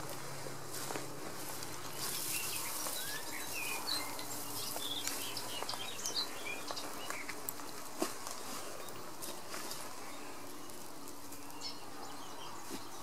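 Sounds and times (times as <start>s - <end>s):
dry grass rustling and crackling: 0.0s - 13.0s
songbirds chirping: 0.0s - 13.0s.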